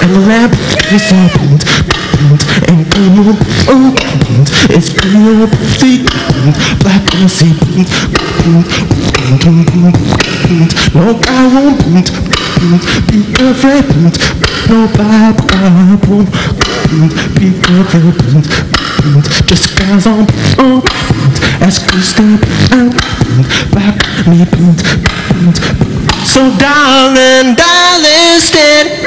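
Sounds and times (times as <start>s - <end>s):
hummed bass line: 0.0s - 27.6s
beatboxing into microphone: 0.0s - 29.0s.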